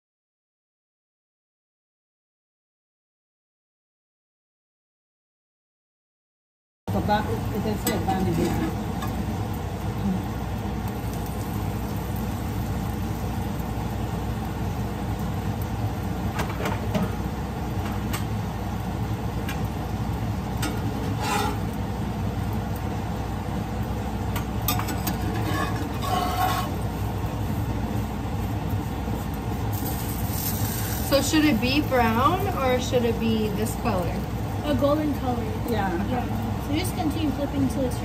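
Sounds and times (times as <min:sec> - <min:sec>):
faint sizzling: 0:06.9 - 0:38.0
gas burner rumble: 0:06.9 - 0:38.0.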